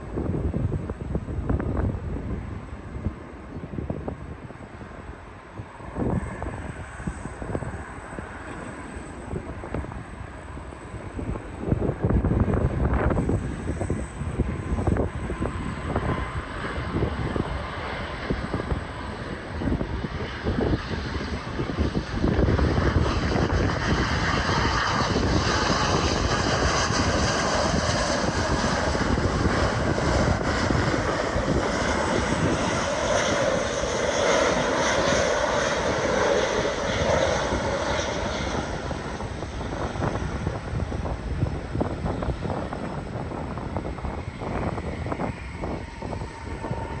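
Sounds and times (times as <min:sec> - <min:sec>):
jet airliner passing by: 0:00.0 - 0:47.0.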